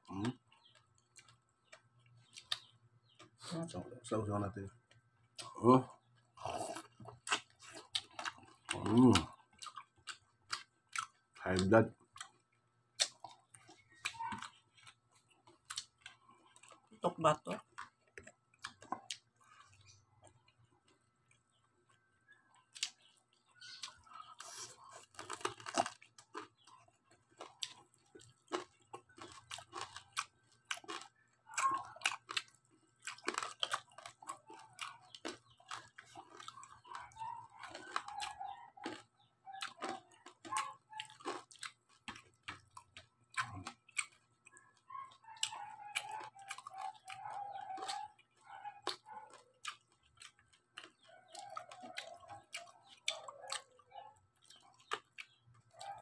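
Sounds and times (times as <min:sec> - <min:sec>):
chewing crispy pork: 0:00.0 - 0:56.0.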